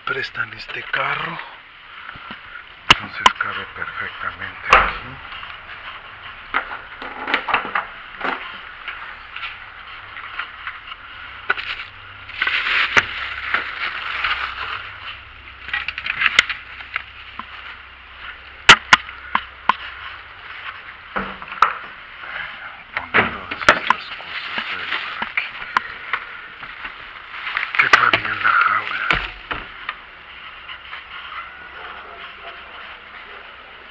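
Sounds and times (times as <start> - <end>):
rustling against microphone: 0.4 - 33.9.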